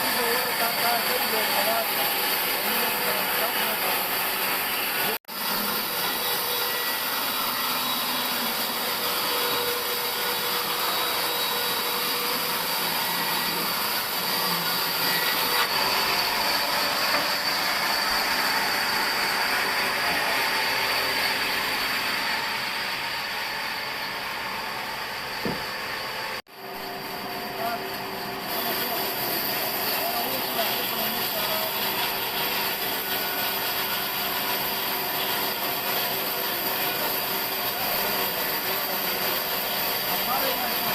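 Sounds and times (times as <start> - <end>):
sawmill saw cutting a log: 0.0 - 40.9.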